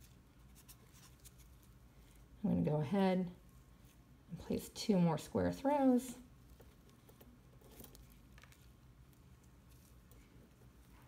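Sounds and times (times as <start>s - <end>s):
faint ticks and rustles of instruments: 0.0s - 5.0s, 5.6s - 11.0s
low room hum: 0.0s - 11.0s.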